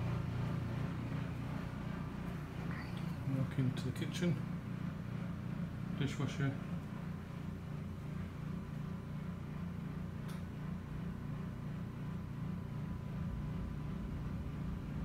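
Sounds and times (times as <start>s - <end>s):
low pulsing machine hum: 0.0s - 15.0s.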